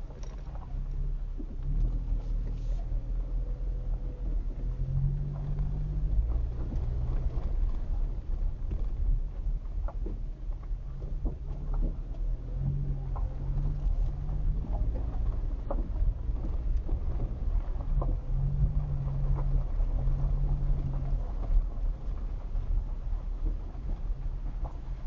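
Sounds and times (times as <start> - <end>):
engine and tyre rumble: 0.0 - 25.0
engine hum: 0.0 - 25.0
small knocks and rattles: 0.0 - 25.0.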